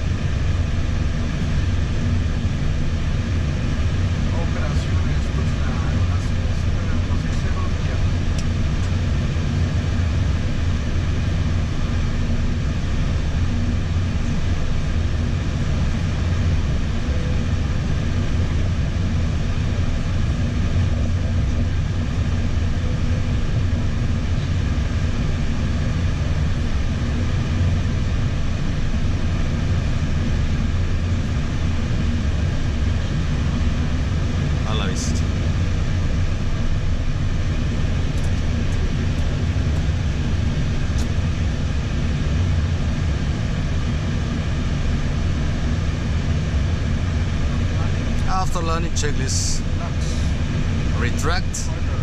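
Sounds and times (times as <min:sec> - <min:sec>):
cockpit engine and air hum: 0:00.0 - 0:52.0.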